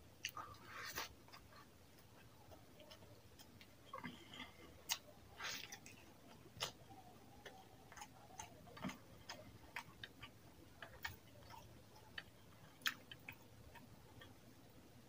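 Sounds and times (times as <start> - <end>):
closed mouth chewing: 0.2 - 14.4.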